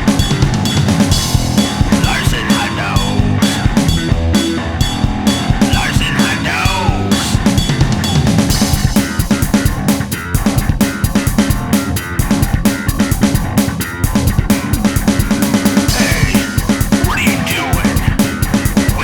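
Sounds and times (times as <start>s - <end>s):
drum beat: 0.0s - 19.0s
electric guitar: 0.0s - 19.0s
rock band music: 0.0s - 19.0s.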